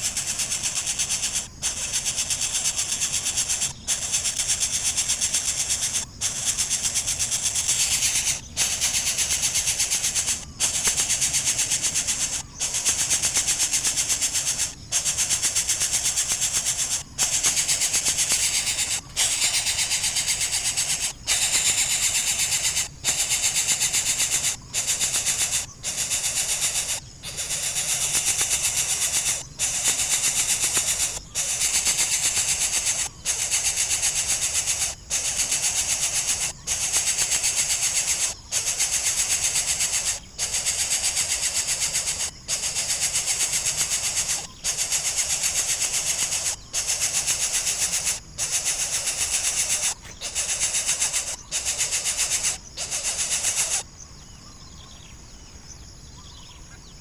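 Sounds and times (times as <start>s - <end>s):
nestling rasping begging calls: 0.0s - 54.0s.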